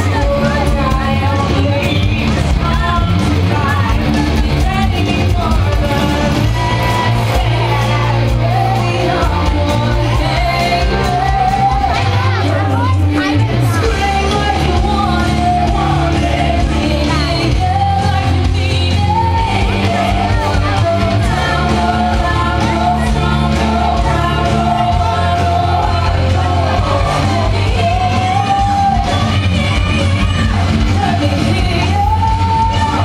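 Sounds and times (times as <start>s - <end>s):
lead singer singing: 0.0s - 33.0s
loud rock music: 0.0s - 33.0s
steady low bass: 0.0s - 33.0s.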